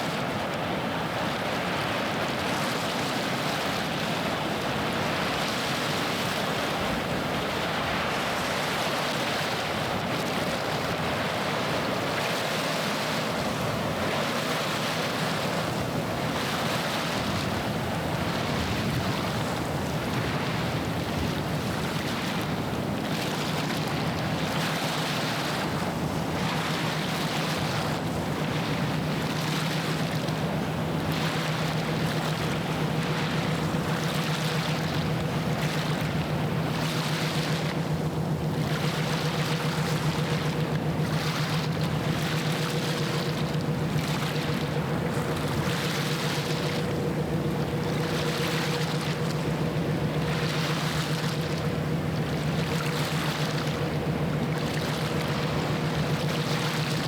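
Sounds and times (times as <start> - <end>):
ship diesel engine drone: 0.0 - 57.0
water washing against shore: 0.0 - 57.0.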